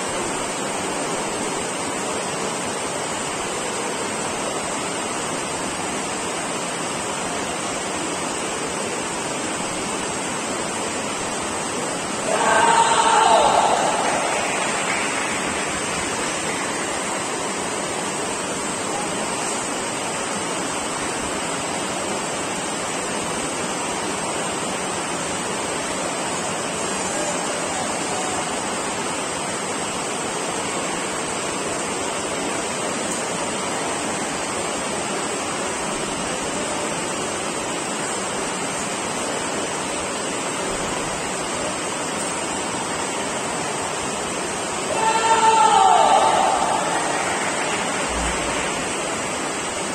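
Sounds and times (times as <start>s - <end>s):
indoor hall background hiss: 0.0s - 49.9s.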